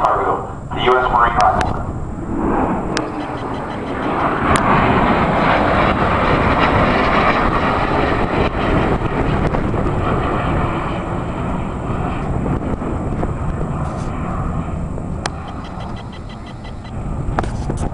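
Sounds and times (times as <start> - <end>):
jet engine roaring: 0.0 - 17.9.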